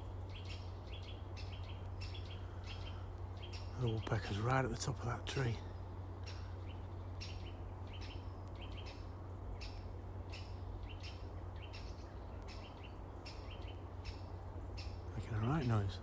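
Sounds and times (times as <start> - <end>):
steady low rumble: 0.0 - 16.0
woodpecker chip calls: 0.0 - 16.0.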